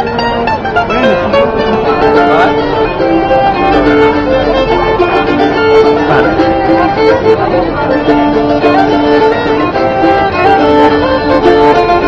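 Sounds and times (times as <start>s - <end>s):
bowed fiddle melody: 0.0s - 12.0s
plucked mandolin: 0.0s - 12.0s.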